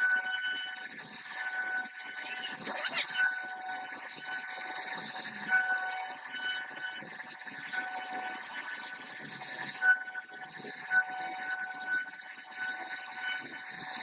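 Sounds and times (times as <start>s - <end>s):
router spindle whine: 0.0s - 14.0s.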